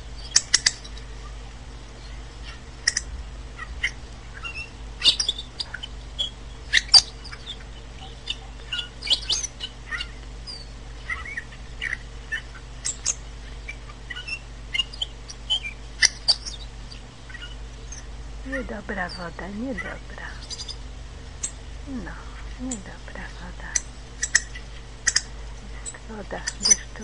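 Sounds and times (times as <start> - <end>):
faint low hum: 0.0 - 27.0
songbirds chirping: 0.0 - 27.0.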